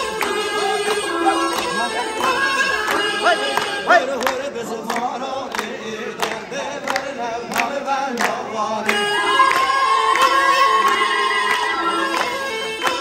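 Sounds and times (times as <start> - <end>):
voices singing: 0.0 - 13.0.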